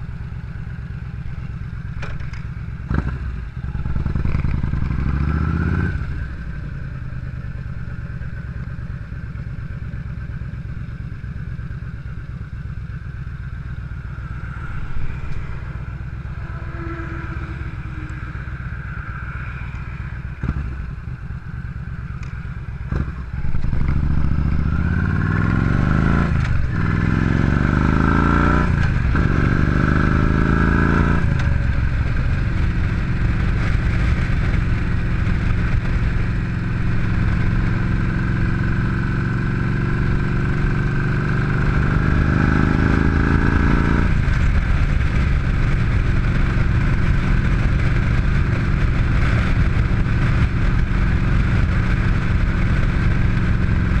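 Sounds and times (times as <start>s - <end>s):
muffled motorcycle accelerating: 0.0s - 54.0s.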